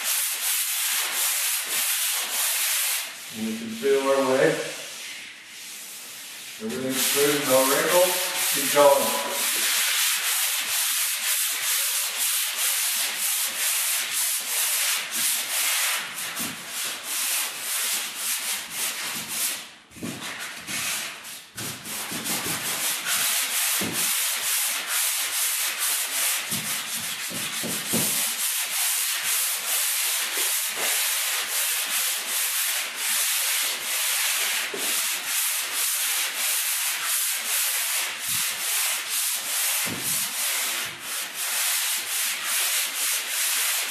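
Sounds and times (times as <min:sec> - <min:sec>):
sanding block rasping on drywall: 0:00.0 - 0:43.9.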